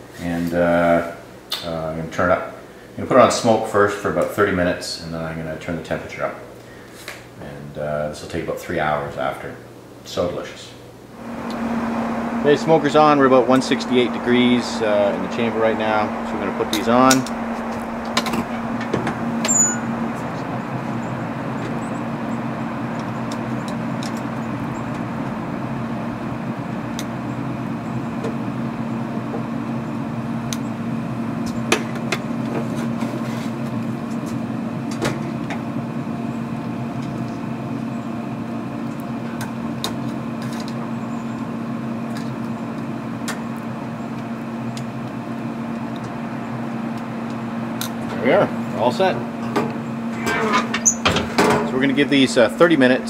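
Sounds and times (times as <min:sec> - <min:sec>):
pellet smoker humming: 0:00.0 - 0:53.0.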